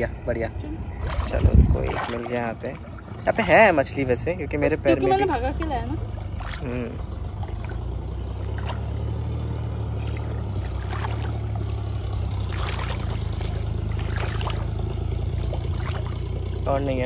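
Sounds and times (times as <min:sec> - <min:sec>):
low rumble: 0:00.0 - 0:17.0
water sloshing and splashing: 0:00.0 - 0:17.0.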